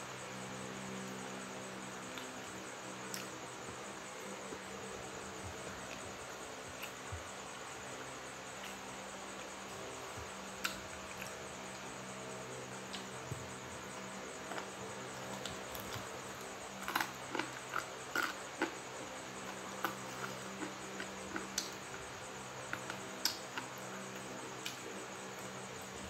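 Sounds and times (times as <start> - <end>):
crickets chirring: 0.0 - 26.0
low even hum: 0.0 - 26.0.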